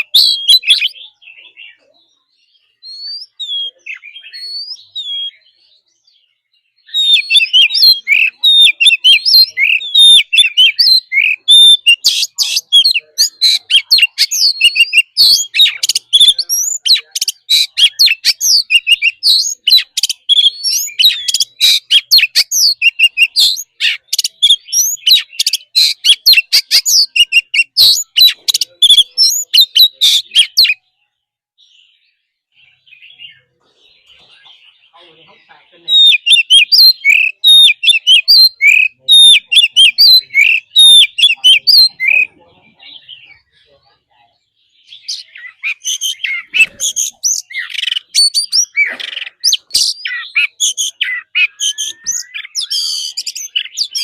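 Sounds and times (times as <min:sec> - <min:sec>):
bird singing whistled phrases: 0:00.0 - 0:01.8, 0:02.5 - 0:05.8, 0:06.8 - 0:30.8, 0:35.9 - 0:42.3, 0:44.9 - 0:54.0.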